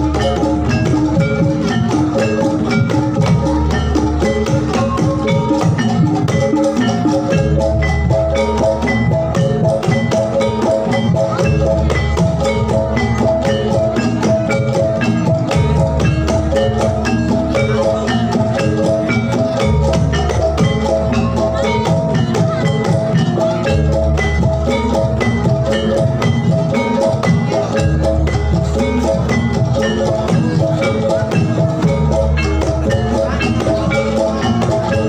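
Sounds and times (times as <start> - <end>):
drums: 0.0 - 35.0
gamelan music: 0.0 - 35.0.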